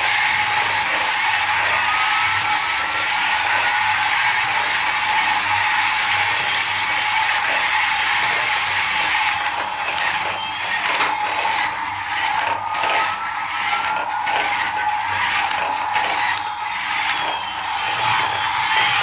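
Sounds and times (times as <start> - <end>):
small motor and gears whirring: 0.0 - 19.0.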